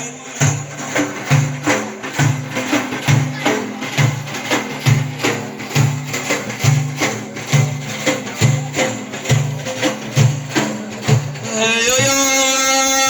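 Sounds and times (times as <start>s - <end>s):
jingling tambourine-like percussion: 0.0s - 13.0s
deep drum strokes: 0.1s - 12.4s.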